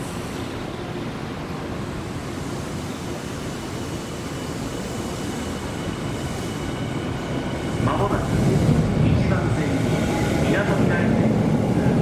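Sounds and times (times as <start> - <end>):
electric train rumble: 0.0 - 12.0
faint train whine: 0.0 - 12.0.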